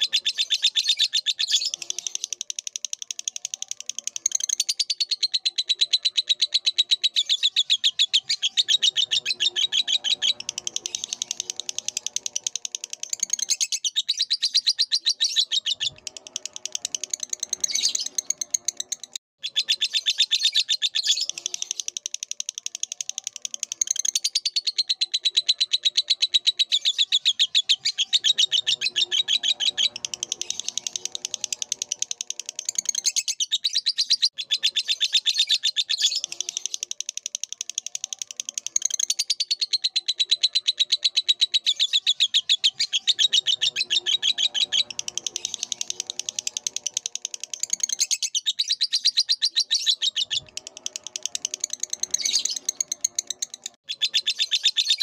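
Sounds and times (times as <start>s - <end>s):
lovebird chattering trills: 0.0s - 55.0s.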